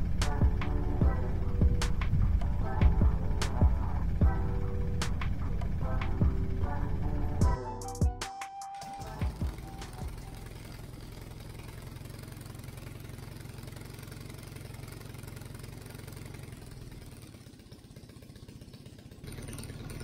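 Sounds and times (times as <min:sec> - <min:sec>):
aircraft engine idling: 0:00.0 - 0:07.7, 0:08.8 - 0:20.0.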